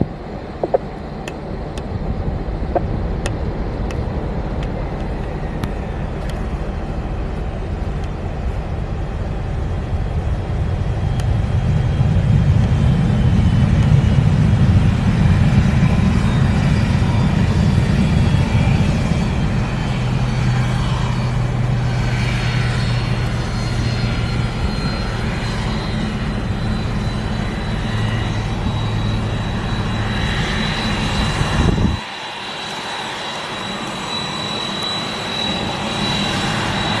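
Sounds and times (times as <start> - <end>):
jet engine high whine: 0.0 - 37.0
jet engines low rumble: 0.0 - 37.0.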